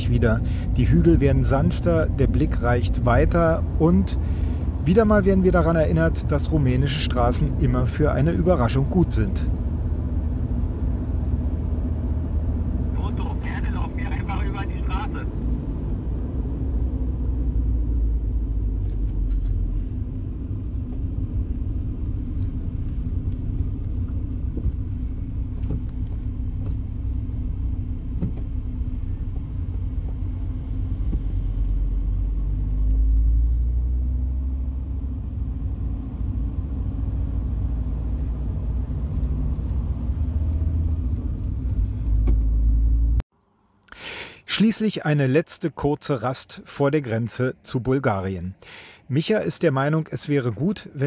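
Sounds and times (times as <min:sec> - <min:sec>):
car cabin road and engine rumble: 0:00.0 - 0:43.3.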